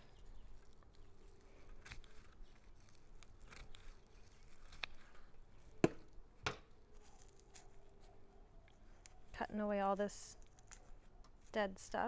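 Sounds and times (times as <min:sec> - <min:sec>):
hands digging in dry soil: 0:00.0 - 0:05.8, 0:06.8 - 0:12.0.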